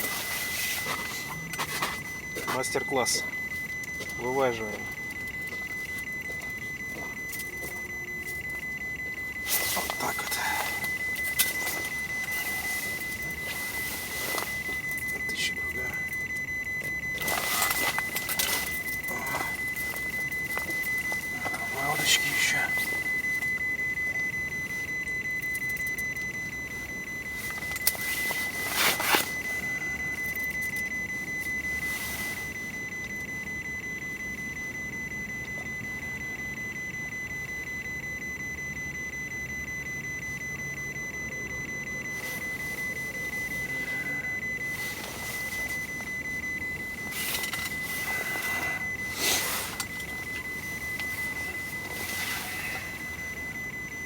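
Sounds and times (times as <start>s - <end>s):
high-pitched electronic tone: 0.0s - 54.0s.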